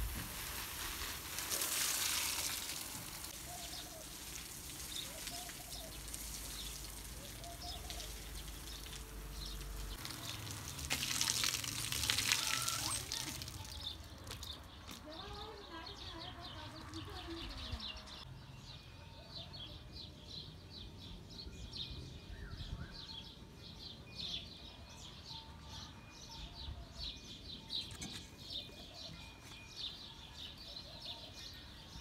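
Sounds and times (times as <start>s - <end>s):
small birds chirping: 1.3s - 32.0s.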